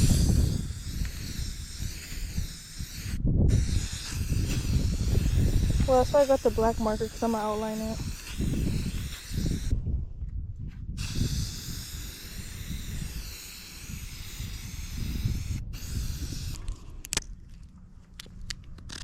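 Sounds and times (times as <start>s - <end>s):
spray paint can hissing: 0.0s - 9.7s, 11.0s - 16.7s
wind rumble on microphone: 0.0s - 19.0s.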